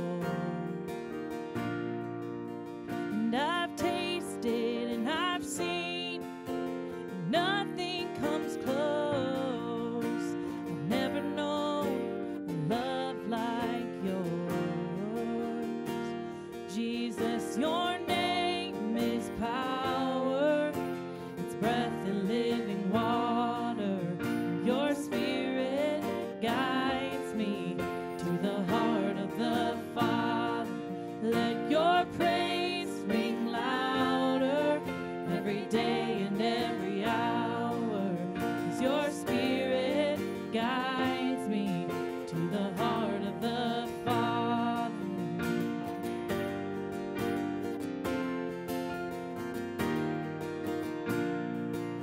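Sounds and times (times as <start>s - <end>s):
women singing: 0.0s - 1.0s, 3.1s - 6.5s, 7.1s - 45.8s
acoustic guitar: 0.0s - 52.0s
stage piano: 0.0s - 52.0s.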